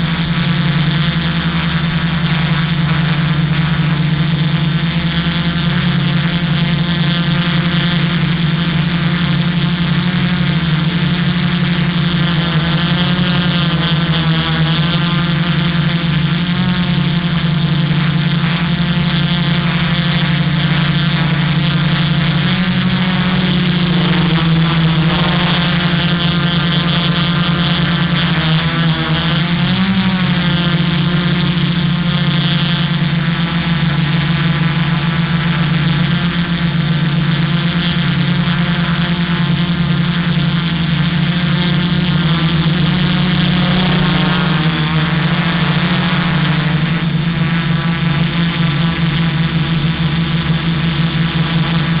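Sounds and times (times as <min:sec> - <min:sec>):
drone propellers humming: 0:00.0 - 0:52.0.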